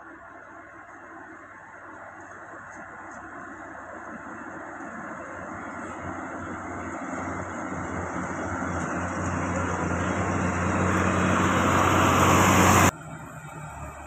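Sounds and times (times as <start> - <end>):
road noise: 0.0 - 14.0
truck engine pulling uphill: 0.0 - 14.0.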